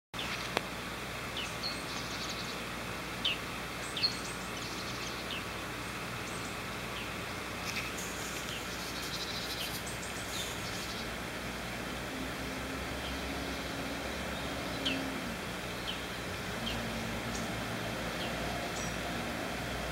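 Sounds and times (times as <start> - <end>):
small birds chirping and trilling: 0.2 - 0.6, 1.2 - 19.9
steady background hiss: 0.2 - 19.9.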